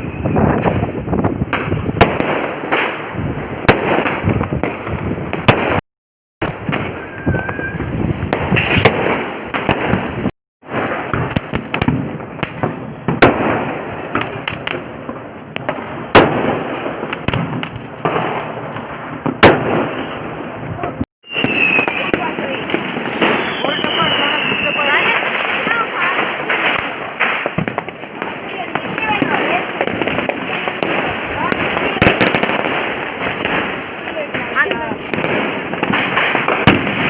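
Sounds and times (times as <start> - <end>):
firecrackers crackling: 0.0 - 5.8, 6.4 - 37.0
loud firecracker bangs: 0.0 - 5.8, 6.4 - 37.0.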